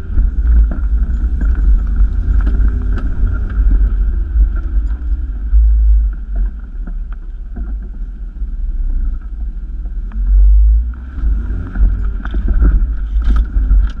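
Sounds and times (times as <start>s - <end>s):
body and suspension rattling: 0.0s - 14.0s
vehicle engine rumbling: 0.0s - 14.0s.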